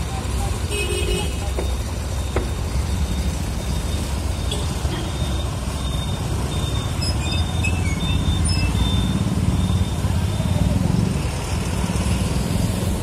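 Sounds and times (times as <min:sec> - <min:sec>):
bus engine rumbling: 0:00.0 - 0:13.0
road traffic: 0:00.0 - 0:13.0.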